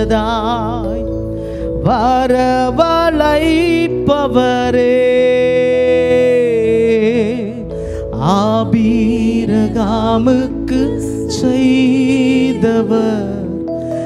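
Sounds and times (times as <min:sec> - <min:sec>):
sustained accompaniment chords: 0:00.0 - 0:14.0.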